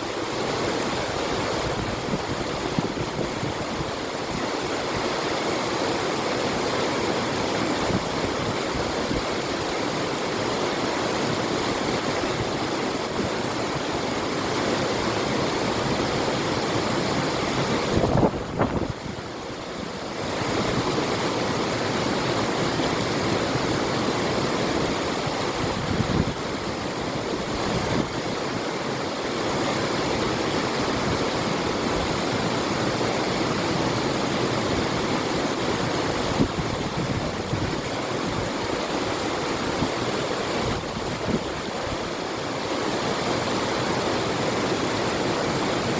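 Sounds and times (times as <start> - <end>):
river water rushing: 0.0 - 45.9
wind: 0.0 - 45.9.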